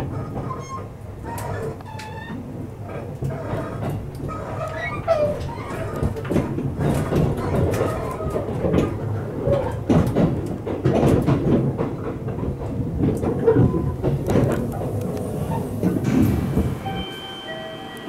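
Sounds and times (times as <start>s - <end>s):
train wheels rumbling and clacking: 0.0s - 18.0s.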